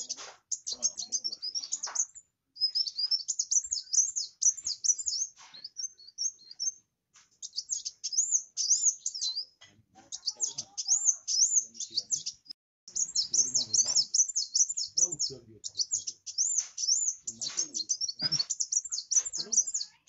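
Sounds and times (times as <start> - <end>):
sunbird twittering song: 0.0 - 20.0.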